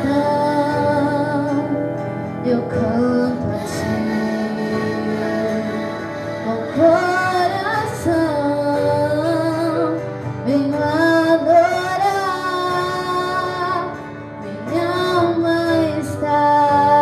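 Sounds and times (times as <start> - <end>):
woman singing: 0.0 - 17.0.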